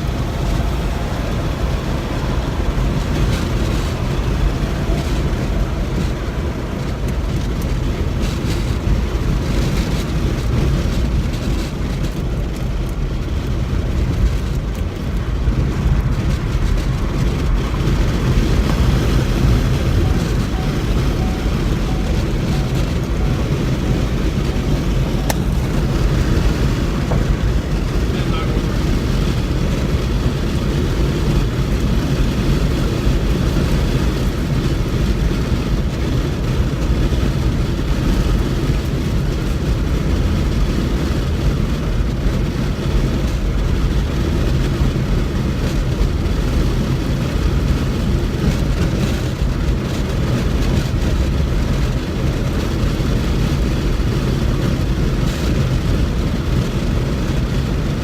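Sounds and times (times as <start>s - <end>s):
vehicle interior rumble: 0.0s - 58.0s.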